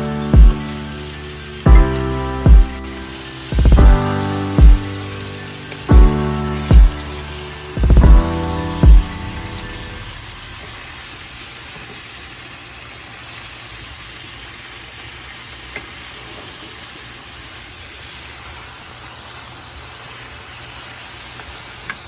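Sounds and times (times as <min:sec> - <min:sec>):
food sizzling in a frying pan: 0:00.1 - 0:22.0.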